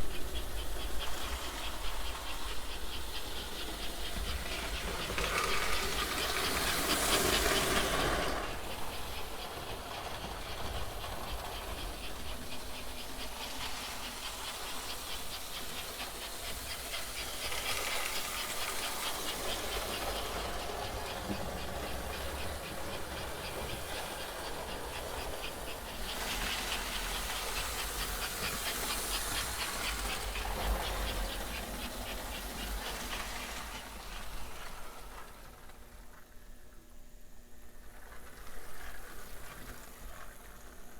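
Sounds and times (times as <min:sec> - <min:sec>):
toy train hissing and clattering: 0:00.0 - 0:36.3, 0:37.8 - 0:40.9.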